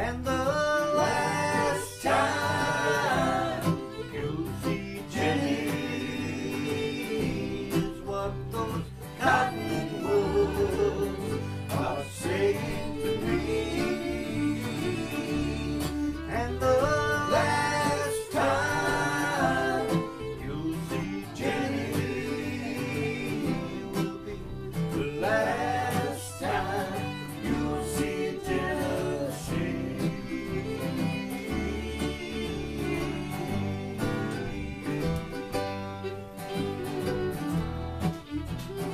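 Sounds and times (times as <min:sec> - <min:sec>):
people singing: 0:00.0 - 0:35.8
acoustic guitars: 0:00.0 - 0:38.9
fiddle: 0:00.0 - 0:38.9.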